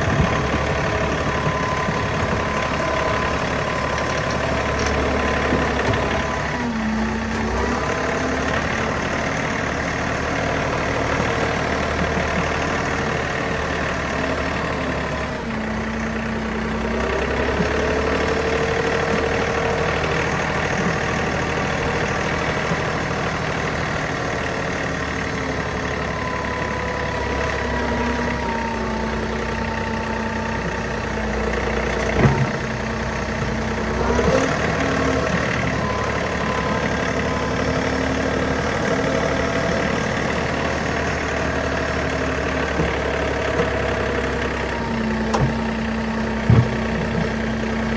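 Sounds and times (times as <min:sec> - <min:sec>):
engine whine: 0:00.0 - 0:47.9
tractor diesel engine running: 0:00.0 - 0:47.9.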